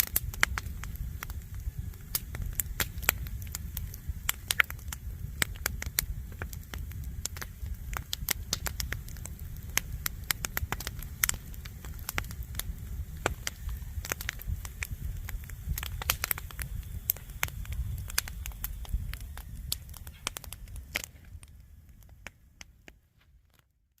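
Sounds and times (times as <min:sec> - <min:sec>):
low rumble: 0:00.0 - 0:23.2
wood fire crackling: 0:00.0 - 0:24.0.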